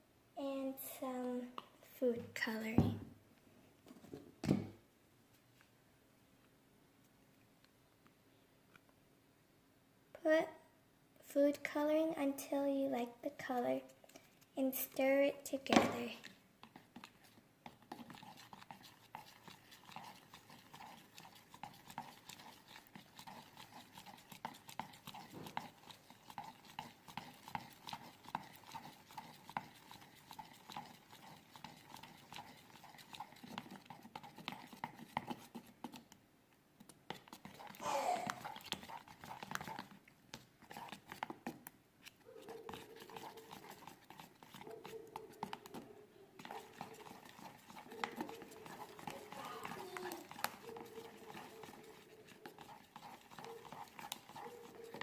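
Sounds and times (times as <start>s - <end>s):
stirring slime in a container: 0.4s - 2.9s, 11.3s - 55.0s.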